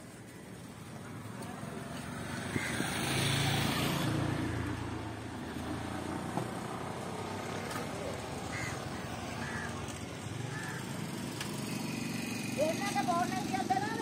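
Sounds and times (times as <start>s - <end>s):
vehicle passing: 1.1s - 14.0s.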